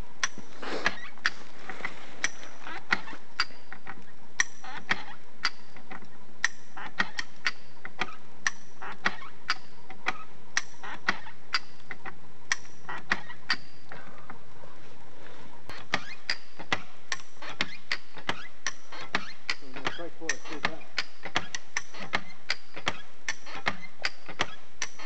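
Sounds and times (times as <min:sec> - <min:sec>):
hand winch clicking: 0:00.2 - 0:14.0, 0:15.7 - 0:25.0.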